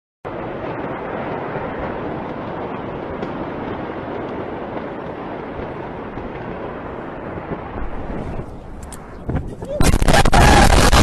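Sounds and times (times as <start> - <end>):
steady rushing noise: 0.3 - 11.0.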